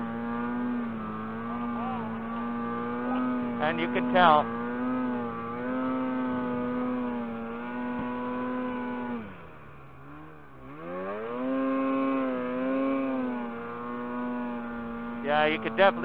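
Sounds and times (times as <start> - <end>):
snowmobile engine under throttle: 0.0 - 16.0.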